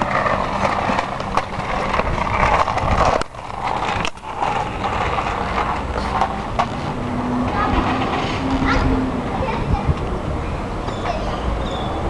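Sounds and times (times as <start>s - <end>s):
scooter wheels rumbling on concrete: 0.0s - 12.0s.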